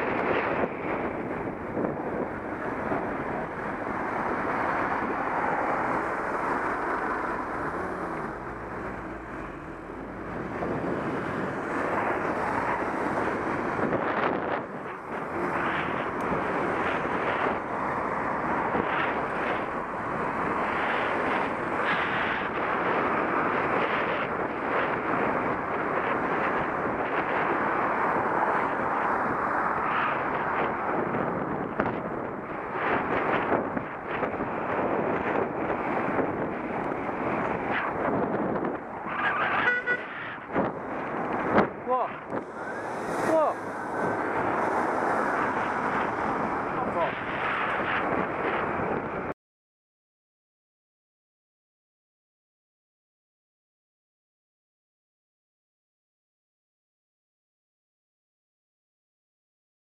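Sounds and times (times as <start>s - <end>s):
road rumble: 0.0s - 49.4s
wind buffeting microphone: 0.0s - 49.4s.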